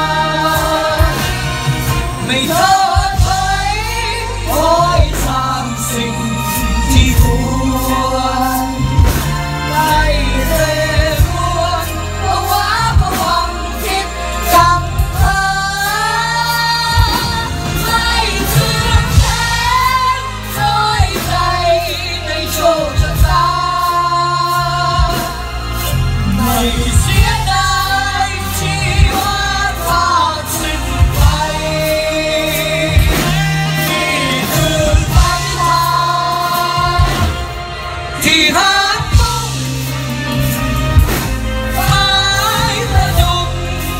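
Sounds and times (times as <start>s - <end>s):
heavy bass: 0.0s - 43.9s
live band playing: 0.0s - 43.9s
people singing: 0.0s - 43.9s
steady drum beats: 0.0s - 43.9s.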